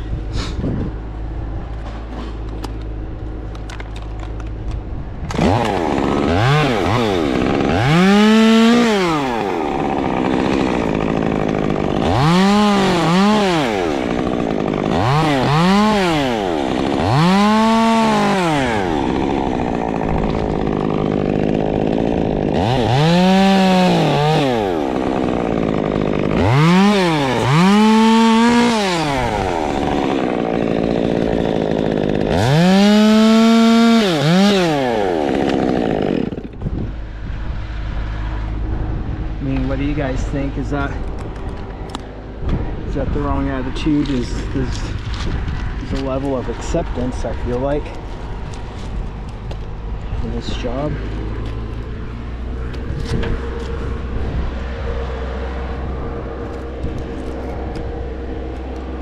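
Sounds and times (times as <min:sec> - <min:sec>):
chainsaw revving: 0:05.3 - 0:36.8, 0:39.5 - 0:59.0.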